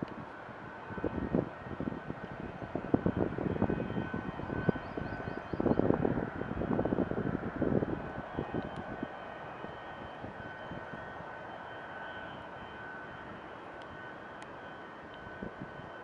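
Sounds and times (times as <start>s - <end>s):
distant jet engine whine: 0.0s - 16.0s
jet engine rumble: 0.0s - 16.0s.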